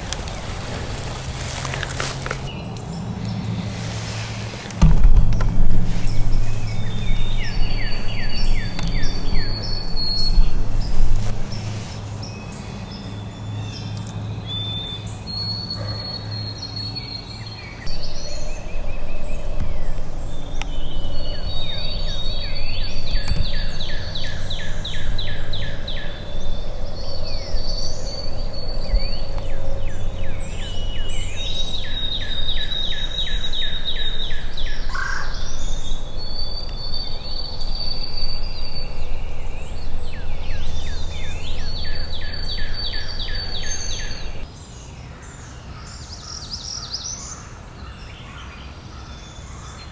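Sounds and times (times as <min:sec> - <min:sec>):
songbirds trilling and whistling: 0:00.0 - 0:49.9.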